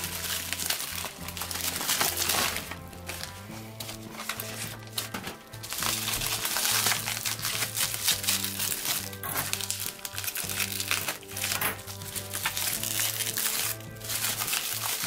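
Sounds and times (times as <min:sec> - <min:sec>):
background music with low bass: 0:00.0 - 0:15.0
blade cutting bubble wrap: 0:00.0 - 0:15.0
plastic bag crinkling: 0:00.0 - 0:15.0.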